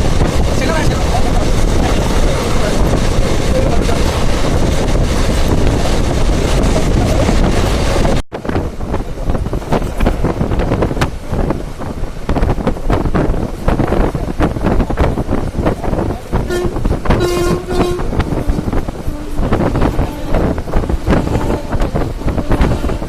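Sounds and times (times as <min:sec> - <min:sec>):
train rumble: 0:00.0 - 0:23.0
train wind and running noise: 0:00.0 - 0:23.0.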